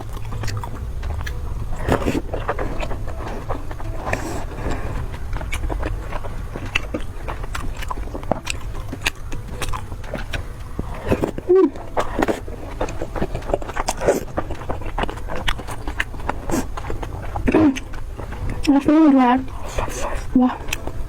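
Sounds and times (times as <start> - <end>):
person crunching food: 0.0 - 18.8, 19.4 - 21.0
steady low rumble: 0.0 - 21.0.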